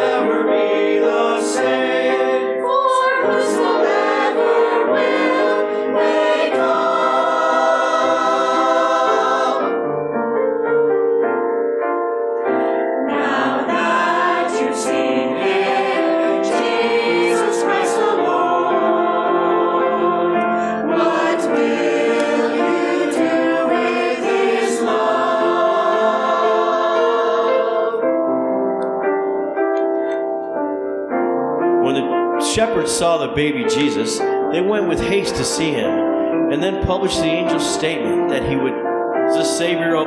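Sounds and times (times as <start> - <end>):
church choir singing: 0.0 - 10.7, 12.4 - 30.5, 31.8 - 40.0
piano accompaniment: 0.0 - 40.0.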